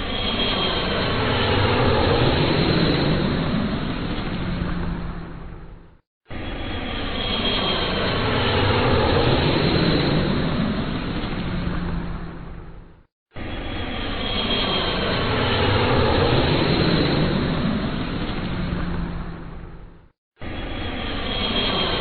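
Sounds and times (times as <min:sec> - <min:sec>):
airplane engine noise: 0:00.0 - 0:22.0.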